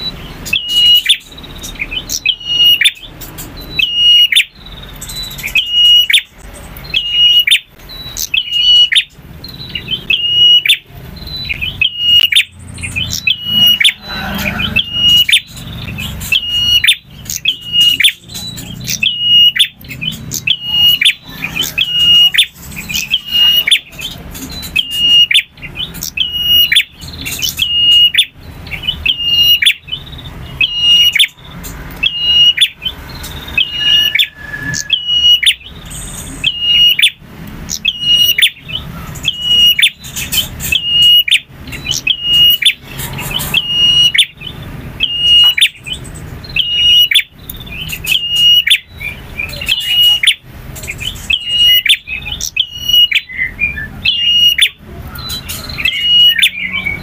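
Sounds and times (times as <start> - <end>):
bird ringing call: 0.0 - 57.0.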